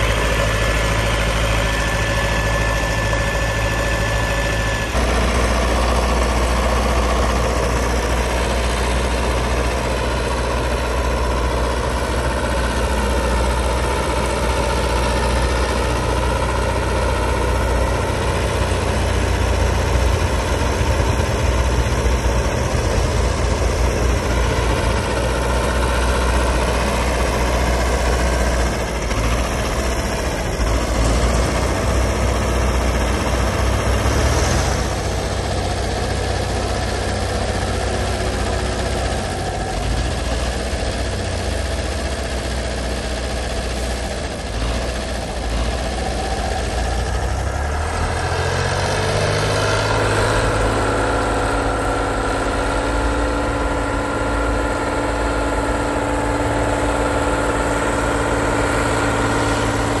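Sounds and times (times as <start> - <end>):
heavy diesel engines under load: 0.0 - 60.0.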